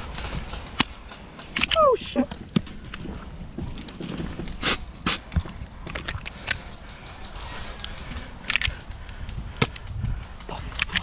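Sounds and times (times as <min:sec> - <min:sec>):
crunching and rustling of movement: 0:00.0 - 0:11.0.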